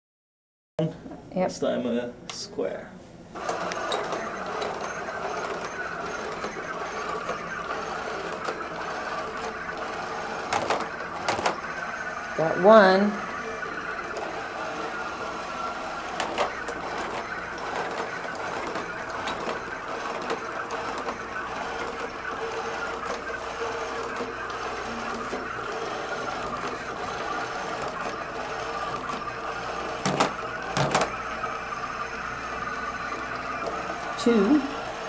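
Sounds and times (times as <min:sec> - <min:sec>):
robot motors whirring: 0:03.4 - 0:35.0.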